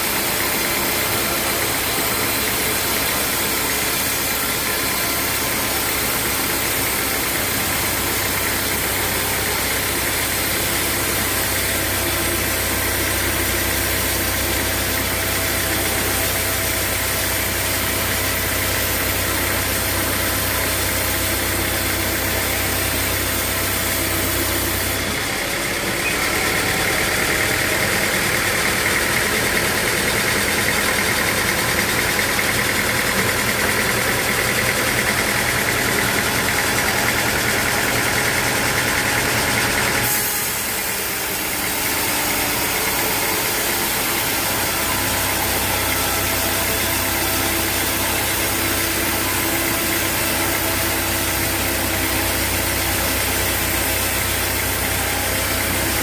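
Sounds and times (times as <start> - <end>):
saw cutting through log: 0.0 - 56.0
sawmill machinery humming: 0.0 - 56.0.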